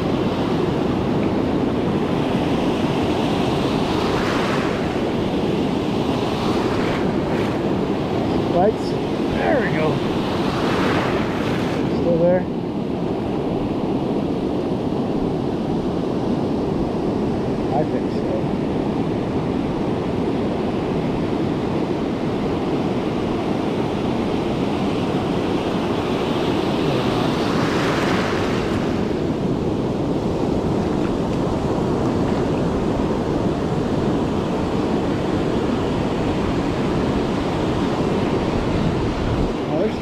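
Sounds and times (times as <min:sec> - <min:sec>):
ocean surf washing on beach: 0:00.0 - 0:40.0
wind buffeting microphone: 0:00.0 - 0:40.0.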